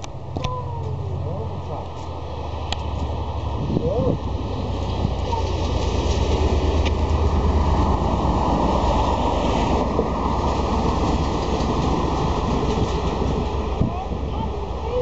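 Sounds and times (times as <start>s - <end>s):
locomotive engine rumble: 0.0s - 15.0s
wheels on rails: 0.0s - 15.0s.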